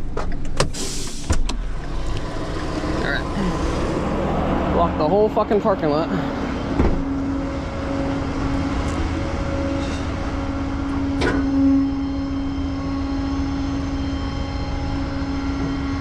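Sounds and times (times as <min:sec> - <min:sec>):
truck engine humming: 0:01.4 - 0:16.0.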